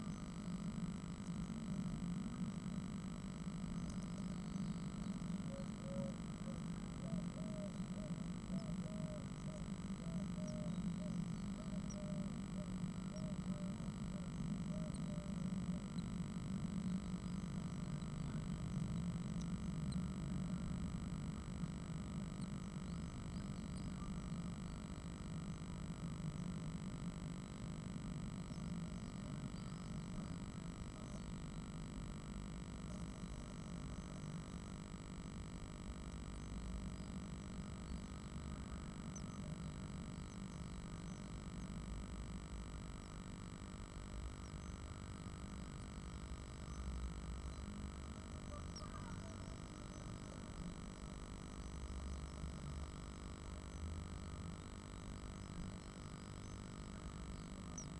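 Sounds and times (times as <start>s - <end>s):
low electrical hum with hiss: 0.0s - 57.9s.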